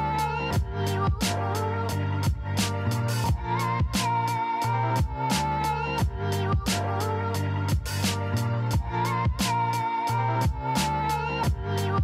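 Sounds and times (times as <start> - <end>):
instrumental music with drum beat: 0.0 - 11.8.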